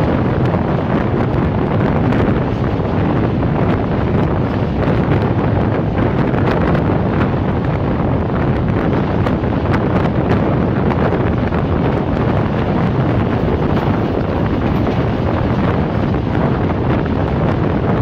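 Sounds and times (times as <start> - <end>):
train wheels rumbling on track: 0.0 - 18.0
wind buffeting microphone: 0.0 - 18.0.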